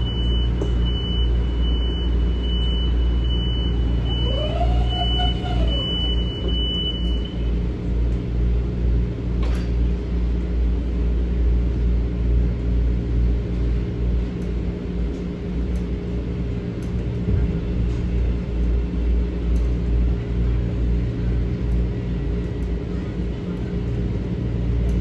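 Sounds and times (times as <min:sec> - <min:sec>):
railcar rumble and hum: 0:00.0 - 0:25.0.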